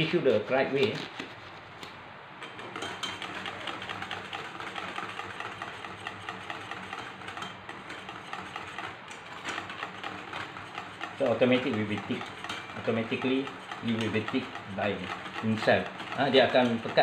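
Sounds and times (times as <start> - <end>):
wire whisk rattling in a pan: 2.4 - 17.0.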